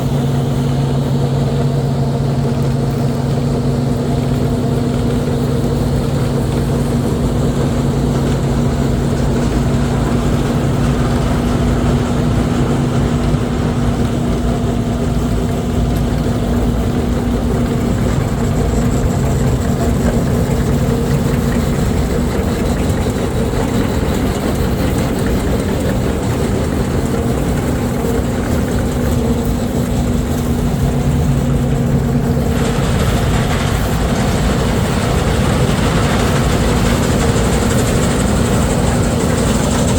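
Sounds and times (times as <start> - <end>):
diesel farm machinery engine drone: 0.0 - 39.9.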